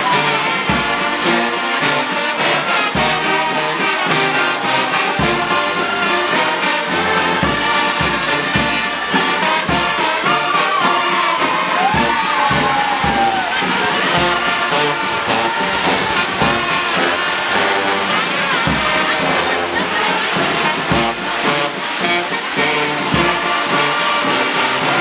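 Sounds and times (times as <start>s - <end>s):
low drum beat: 0.0s - 1.6s, 2.9s - 25.0s
horns holding chords: 0.0s - 25.0s.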